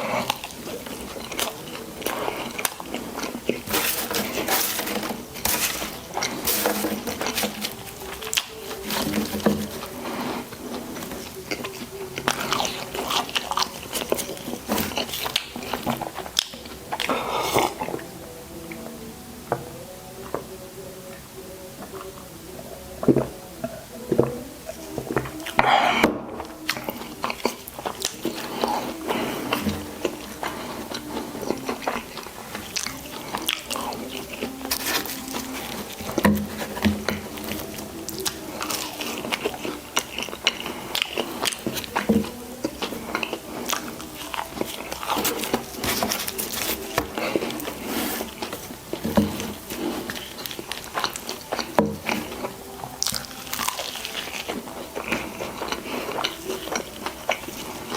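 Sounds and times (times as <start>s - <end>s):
wet chewing: 0.0s - 57.9s.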